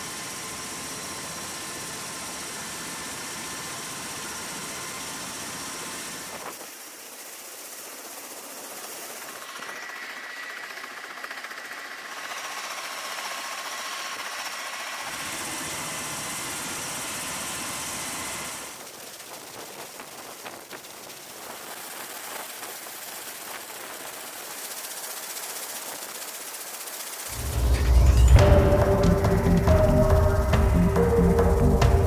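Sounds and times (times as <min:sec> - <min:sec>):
aircraft engines high whine: 0:00.0 - 0:22.5, 0:27.3 - 0:32.0.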